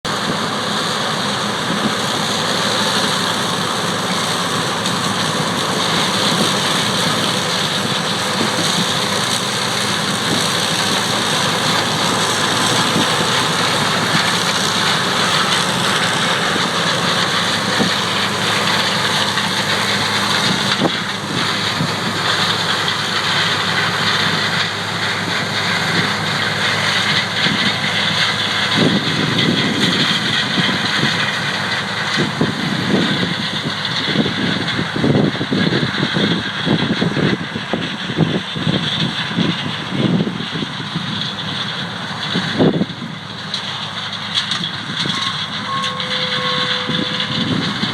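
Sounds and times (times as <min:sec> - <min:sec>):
farm machinery engines running: 0:00.0 - 0:47.9.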